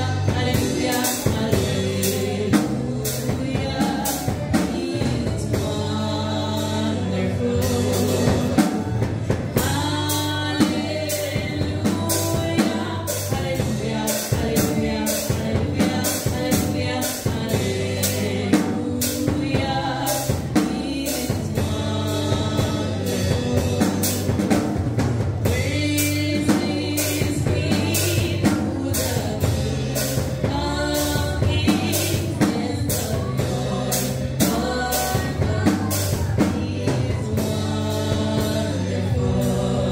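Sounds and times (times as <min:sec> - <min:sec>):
bass guitar: 0:00.0 - 0:39.9
drums: 0:00.0 - 0:39.9
woman singing gospel into microphone: 0:00.0 - 0:39.9.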